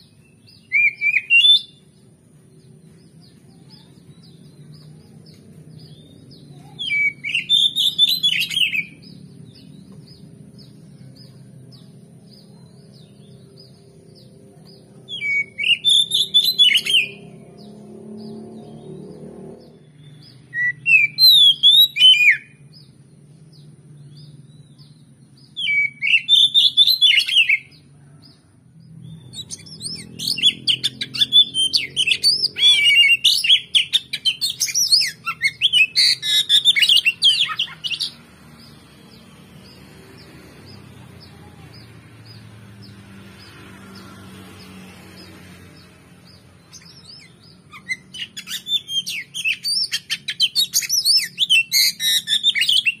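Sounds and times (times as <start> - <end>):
bird singing whistles and chirps: 0.0 - 2.0, 3.0 - 22.9, 23.5 - 27.7, 29.1 - 42.5, 46.3 - 53.0.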